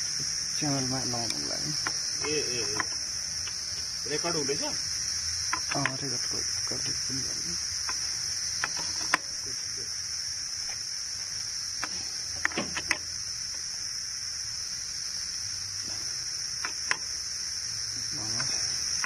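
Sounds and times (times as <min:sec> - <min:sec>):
insect chirring: 0:00.0 - 0:19.0.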